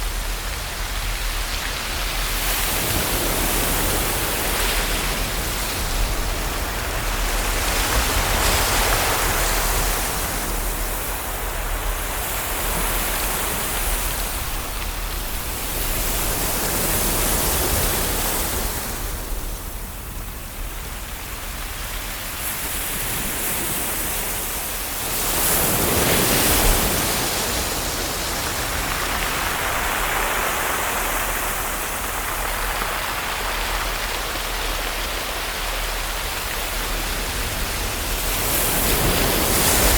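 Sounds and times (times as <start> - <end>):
ocean waves on shore: 0.0 - 39.9.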